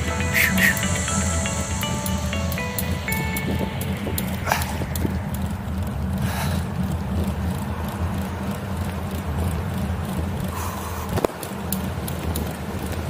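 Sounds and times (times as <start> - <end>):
road noise rumble: 0.0 - 13.0.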